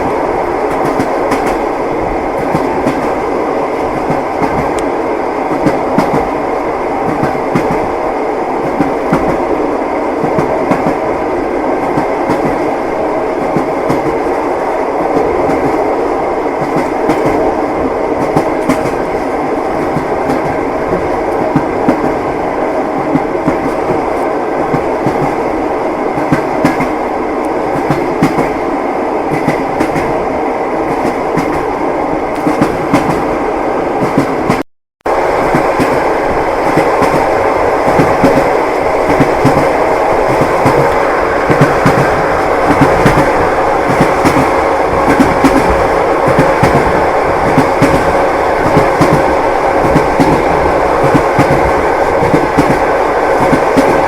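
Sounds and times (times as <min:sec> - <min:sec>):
train wheels clacking on rails: 0:00.0 - 0:28.6, 0:29.2 - 0:30.2, 0:30.8 - 0:33.4, 0:34.0 - 0:54.0
train carriage rumble: 0:00.0 - 0:54.0.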